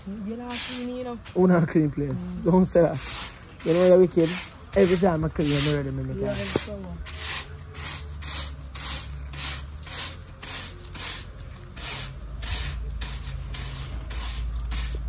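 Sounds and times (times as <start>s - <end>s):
broom sweeping gravel and leaves: 0.0s - 1.9s, 2.5s - 15.0s.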